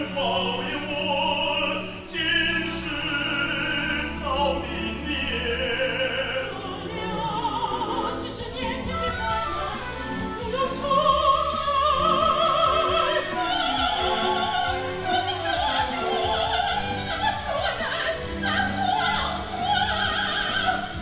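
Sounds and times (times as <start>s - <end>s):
operatic singing: 0.0s - 21.0s
orchestral accompaniment: 0.0s - 21.0s.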